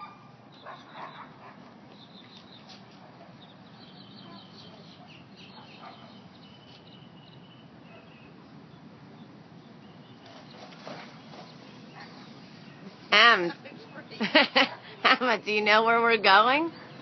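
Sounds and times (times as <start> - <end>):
birds chirping faintly: 0.0 - 17.0
low outdoor hum: 0.0 - 17.0.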